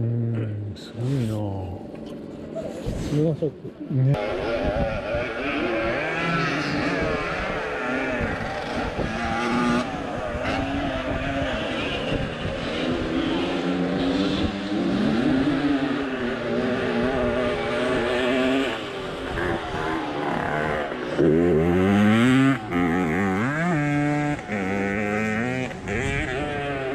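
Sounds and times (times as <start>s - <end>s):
small engine running: 4.2s - 26.9s.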